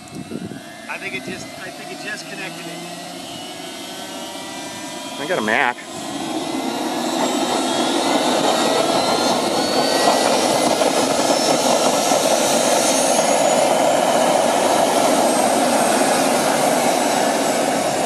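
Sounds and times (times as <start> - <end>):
model gas turbine spooling up: 0.0 - 18.0.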